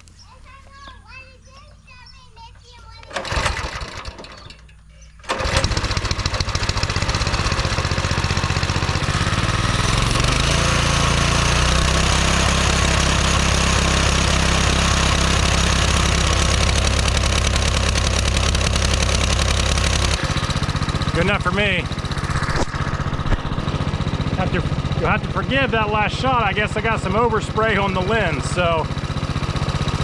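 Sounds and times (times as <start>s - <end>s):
small engine running: 0.5s - 30.0s.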